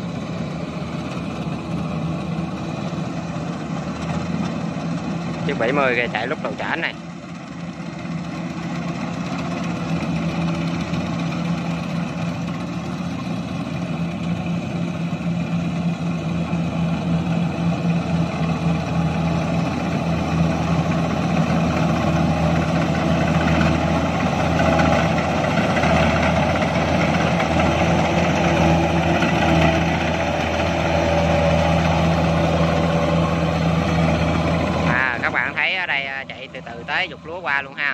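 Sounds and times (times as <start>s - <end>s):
combine harvester engine running: 0.0s - 37.9s.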